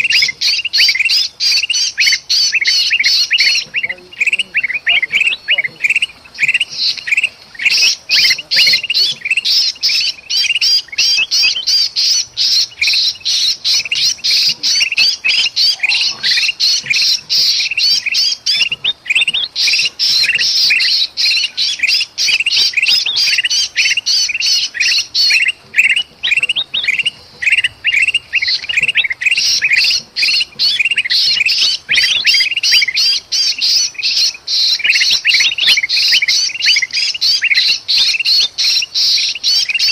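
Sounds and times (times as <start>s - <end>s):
birds giving harsh alarm calls: 0.0s - 39.9s.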